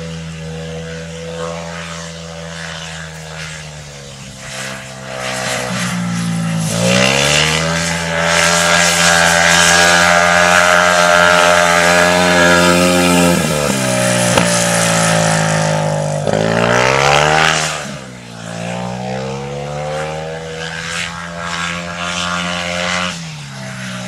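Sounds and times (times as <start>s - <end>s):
motorbike engine revving hard: 0.0s - 24.0s.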